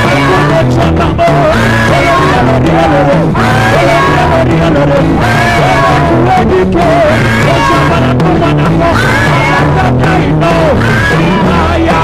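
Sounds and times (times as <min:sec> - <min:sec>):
live gospel band music: 0:00.0 - 0:12.0.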